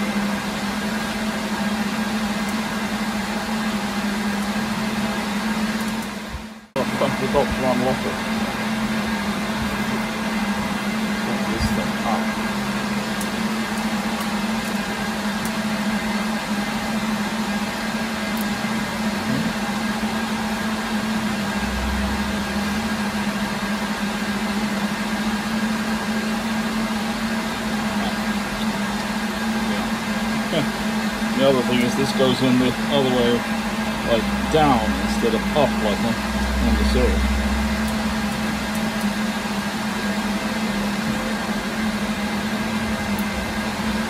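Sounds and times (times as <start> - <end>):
server cooling fans humming: 0.0 - 44.0.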